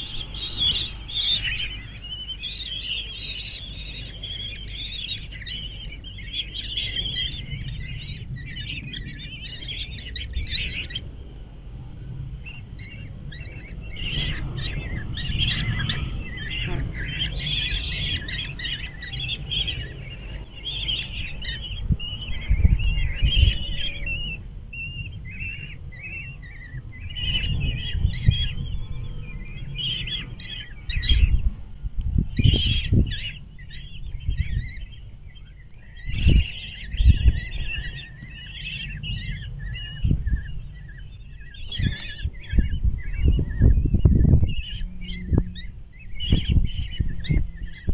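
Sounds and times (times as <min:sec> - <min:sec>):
bird chicks chirping rapidly: 0:00.0 - 0:47.9.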